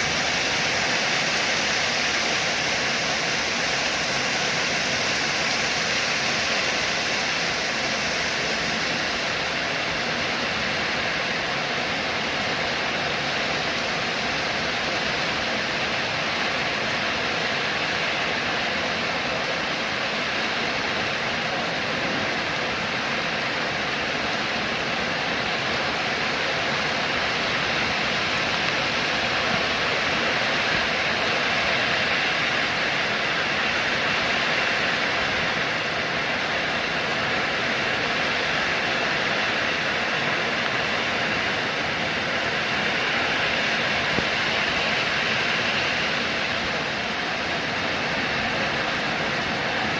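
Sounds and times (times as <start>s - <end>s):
steady rain hissing: 0.0s - 49.9s.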